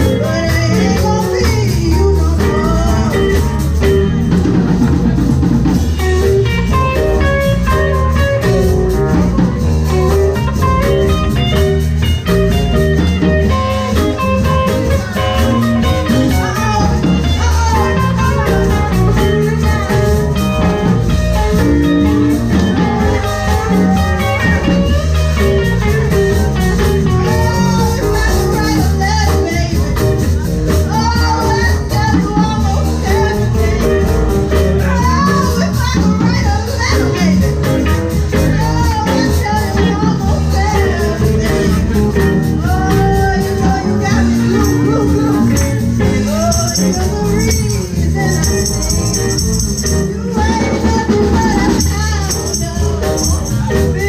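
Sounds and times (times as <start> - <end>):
live blues band playing: 0.0 - 54.0
person singing: 0.0 - 54.0.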